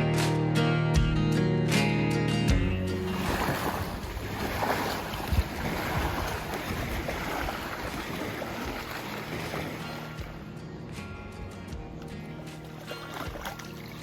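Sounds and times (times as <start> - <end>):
acoustic guitar music: 0.0 - 14.0
wind and water noise: 2.4 - 14.0
wind buffeting microphone: 2.5 - 14.0.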